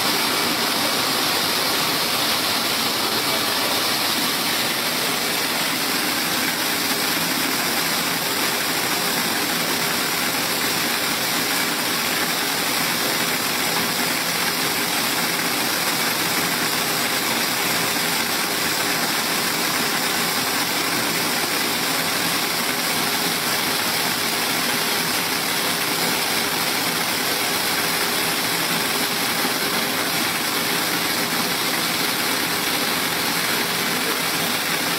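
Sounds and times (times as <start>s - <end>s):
machine running steadily: 0.0s - 34.9s.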